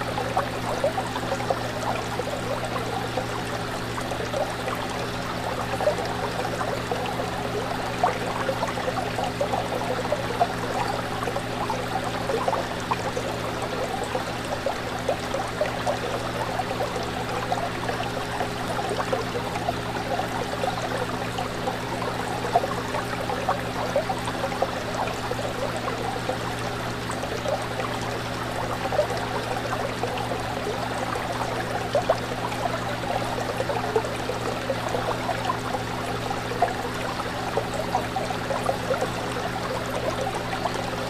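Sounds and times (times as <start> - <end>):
fish tank water bubbling: 0.0 - 41.0.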